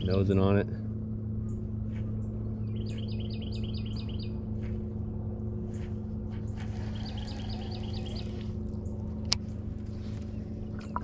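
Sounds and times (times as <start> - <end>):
steady low hum: 0.0 - 11.0
songbird chirping: 1.4 - 4.9, 5.7 - 11.0.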